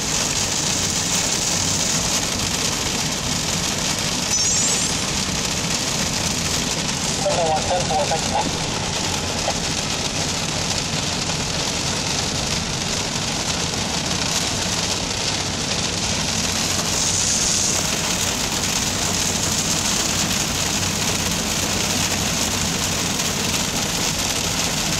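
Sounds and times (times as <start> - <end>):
car drone and tyres on wet road: 0.0 - 24.9
heavy rain on car windshield: 0.0 - 24.9.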